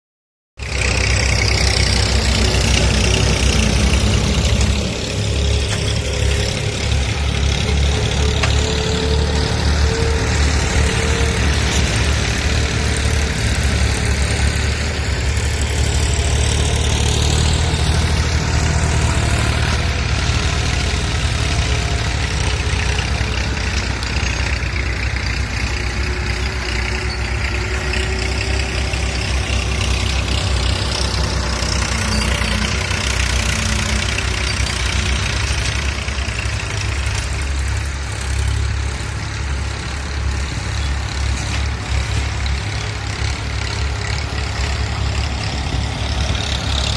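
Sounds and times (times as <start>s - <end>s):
heavy engine rumbling: 0.6s - 46.9s.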